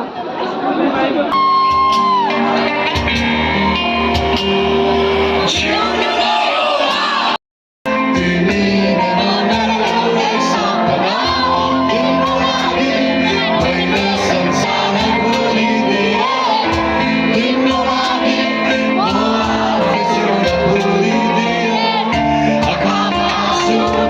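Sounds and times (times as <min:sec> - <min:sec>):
live band music through pa: 0:01.3 - 0:24.0
person singing: 0:01.3 - 0:24.0.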